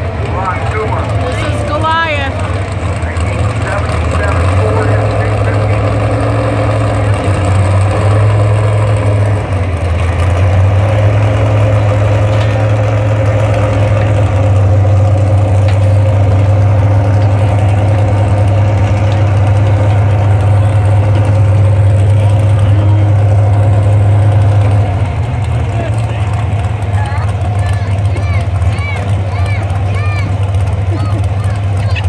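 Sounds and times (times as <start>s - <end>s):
tractor engine droning: 0.0s - 32.0s.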